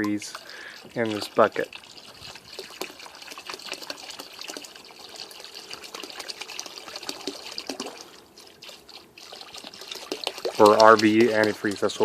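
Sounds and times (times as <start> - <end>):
liquid pouring into bucket: 0.0 - 12.0.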